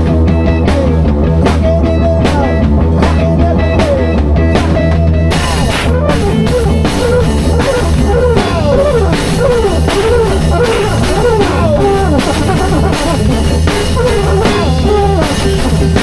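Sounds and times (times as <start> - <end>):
drum kit beating: 0.0 - 16.0
guitar melody bending in pitch: 0.0 - 16.0
held low bass: 0.0 - 16.0.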